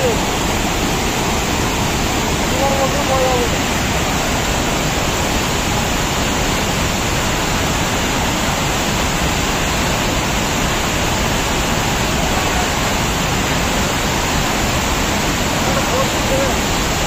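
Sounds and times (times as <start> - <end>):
river rapids rushing over rocks: 0.0 - 17.0.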